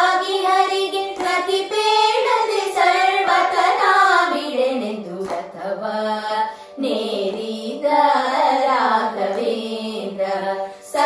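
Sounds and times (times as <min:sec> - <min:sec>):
women singing devotional song: 0:00.0 - 0:11.0.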